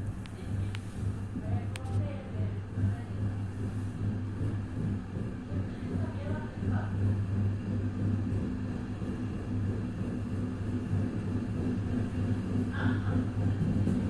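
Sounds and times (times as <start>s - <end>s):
railcar engine hum: 0.0s - 14.0s.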